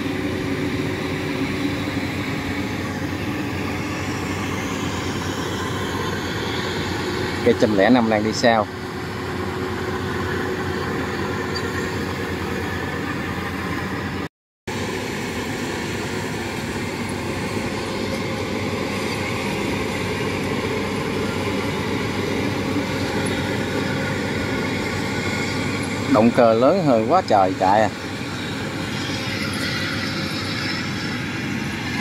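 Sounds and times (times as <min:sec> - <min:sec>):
combine harvester engine and threshing: 0:00.0 - 0:32.0.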